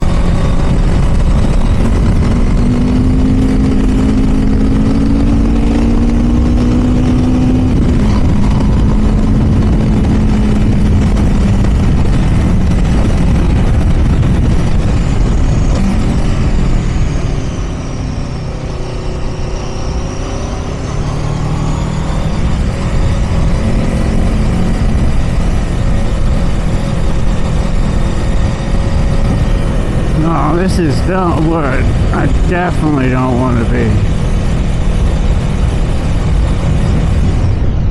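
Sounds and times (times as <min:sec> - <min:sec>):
motorcycle engine running: 0:00.0 - 0:37.9
steady rush of noise: 0:00.0 - 0:37.9.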